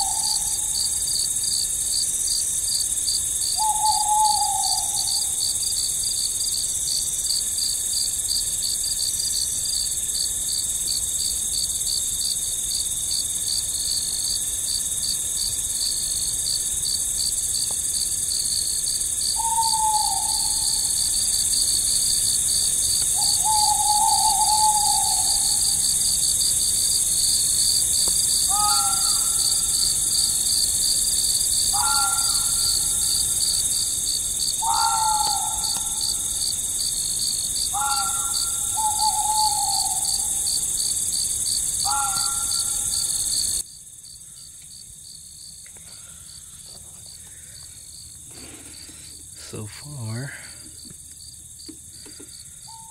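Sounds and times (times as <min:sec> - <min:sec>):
crickets chirping: 0:00.0 - 0:52.9
high insect hiss: 0:00.0 - 0:52.9.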